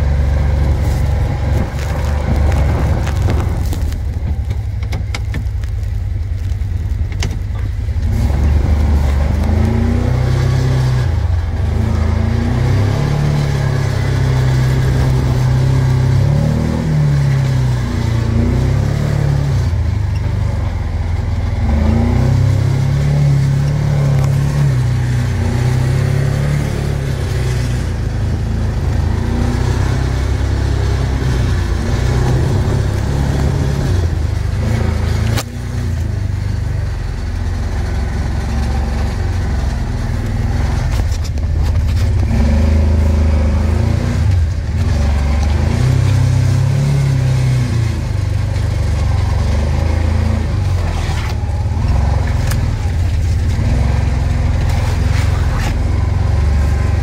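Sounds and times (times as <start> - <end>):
vehicle engine revving from cab: 7.9 - 57.0.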